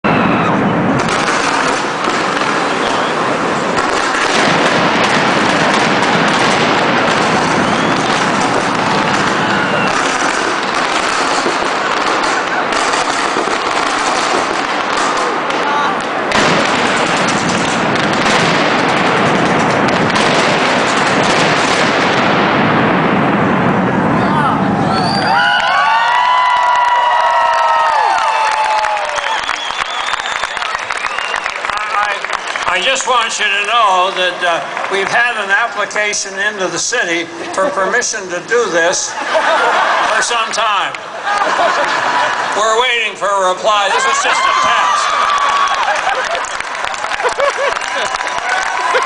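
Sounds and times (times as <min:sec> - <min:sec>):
fireworks crackling: 0:00.1 - 0:49.0.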